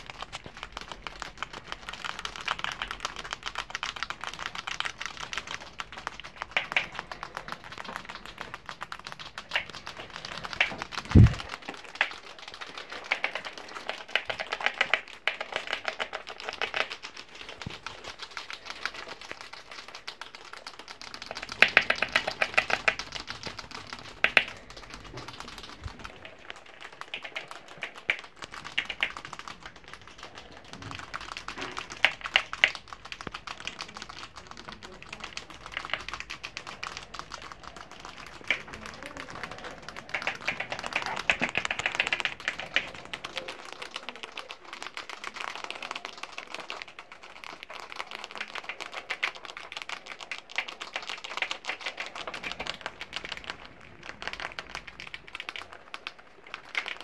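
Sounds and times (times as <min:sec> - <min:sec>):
rats crunching pasta: 0:00.0 - 0:57.0.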